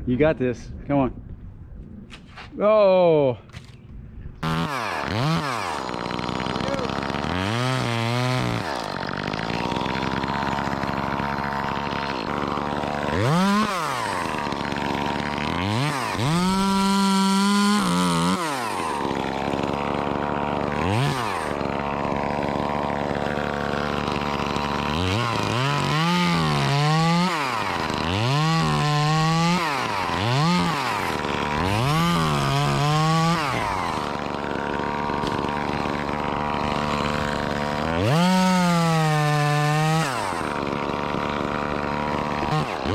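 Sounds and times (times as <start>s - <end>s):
chainsaw revving: 4.4s - 42.9s.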